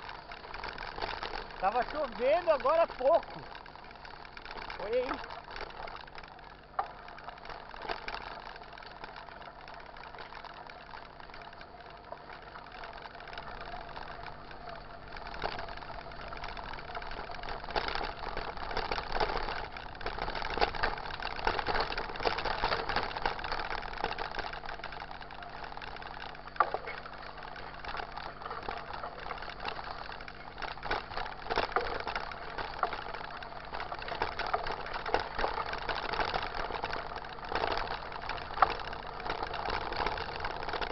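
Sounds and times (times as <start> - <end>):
bike clattering over bumps: 0.0 - 40.9
bike rattling: 0.0 - 40.9
tyre noise on muddy road: 0.0 - 40.9.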